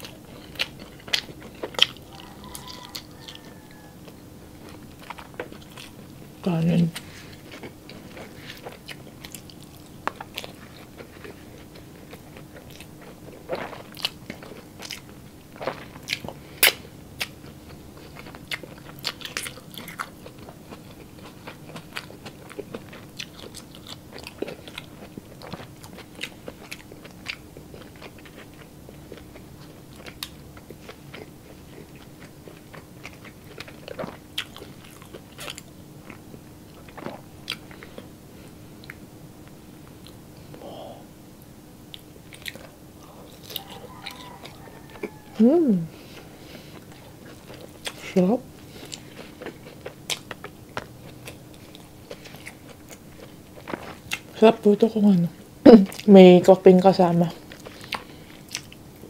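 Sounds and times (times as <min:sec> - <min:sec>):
person chewing and biting food: 0:00.0 - 0:06.2, 0:07.0 - 0:38.2, 0:41.9 - 0:45.4, 0:46.0 - 0:54.4, 0:57.4 - 0:59.0
faint steady hum: 0:00.0 - 0:59.0.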